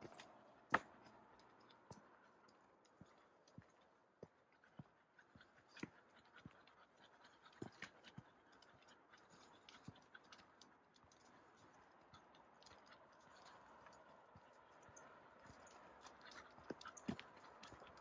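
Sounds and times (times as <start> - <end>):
footsteps on trail: 0.0 - 18.0.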